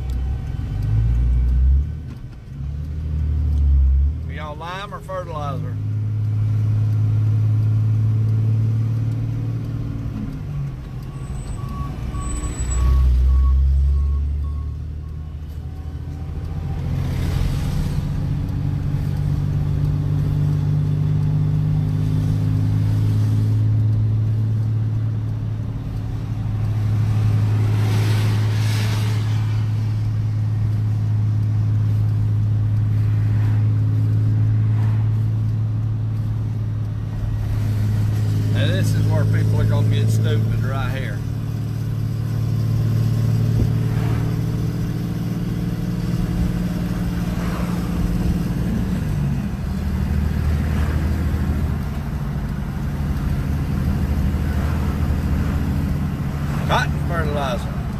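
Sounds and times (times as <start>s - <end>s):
vehicle engine droning: 0.0s - 57.9s
vehicles whooshing past: 0.0s - 57.9s.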